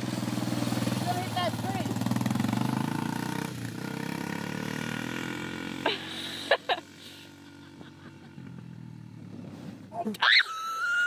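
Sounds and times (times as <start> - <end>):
atv engine running: 0.0 - 9.9.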